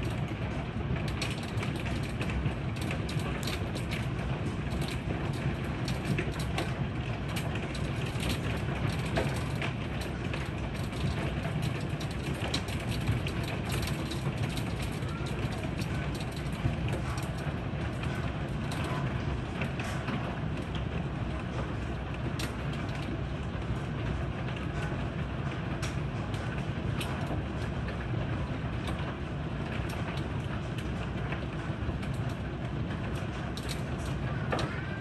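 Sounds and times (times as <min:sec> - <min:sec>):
hailstones clicking on wood: 0:00.0 - 0:25.0, 0:25.7 - 0:34.9
heavy rain: 0:00.0 - 0:35.0.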